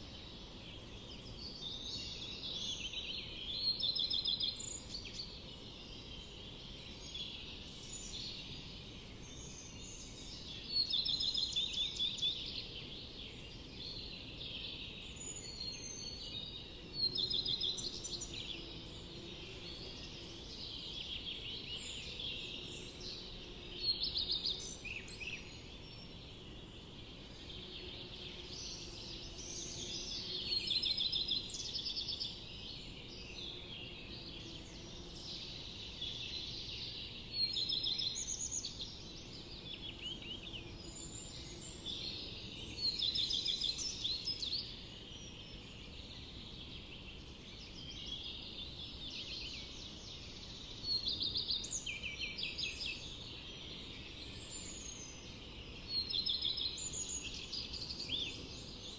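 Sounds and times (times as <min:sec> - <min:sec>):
faint background hiss: 0:00.0 - 0:58.9
songbirds singing: 0:00.0 - 0:58.9.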